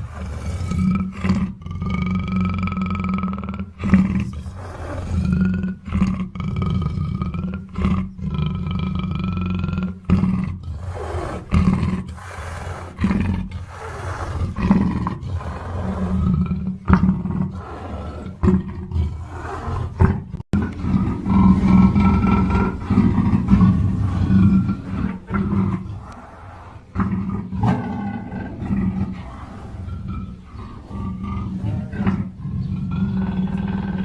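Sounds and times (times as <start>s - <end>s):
panther roaring: 3.8s - 34.0s.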